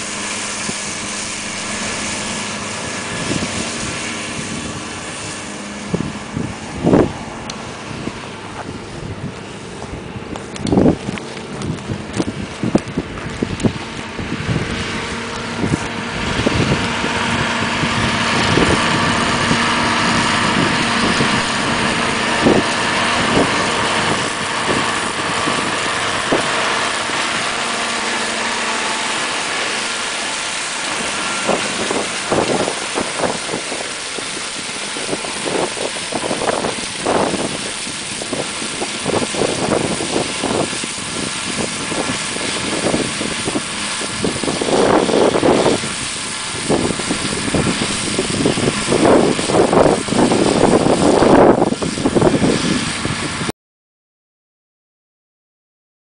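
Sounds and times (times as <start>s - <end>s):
shredder chopping stalks: 0.0s - 53.5s
tractor running under load: 0.0s - 53.5s.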